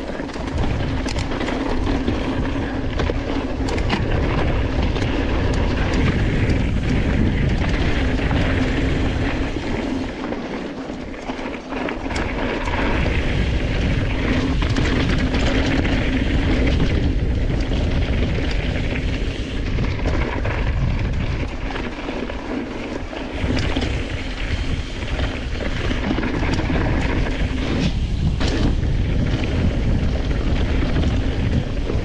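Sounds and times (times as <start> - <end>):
mountain bike rattling: 0.0 - 32.0
wind rumble on microphone: 0.0 - 32.0.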